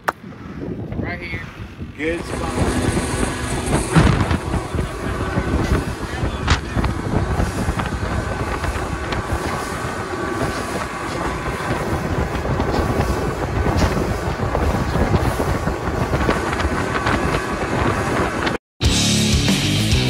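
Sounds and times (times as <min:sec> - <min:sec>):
water noise: 0:00.0 - 0:18.6
wind buffeting microphone: 0:00.0 - 0:18.6
boat engine: 0:00.0 - 0:20.0.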